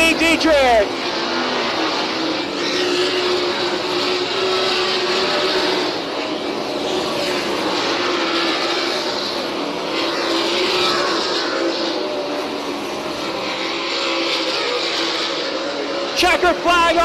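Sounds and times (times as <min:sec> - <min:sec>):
race car engines revving high: 0:00.0 - 0:17.0
race car sweeping past: 0:00.0 - 0:17.0.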